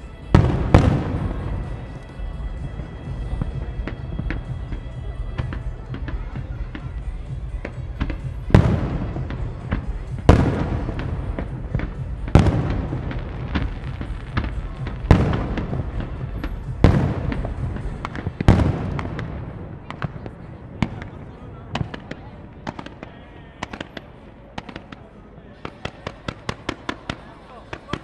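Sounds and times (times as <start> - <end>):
fireworks bangs with echo: 0.0 - 28.0
fireworks crackling: 0.0 - 28.0.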